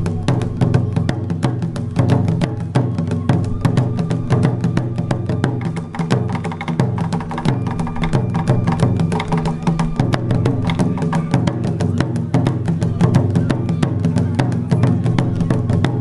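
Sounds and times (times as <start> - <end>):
taiko drumming: 0.0 - 16.0.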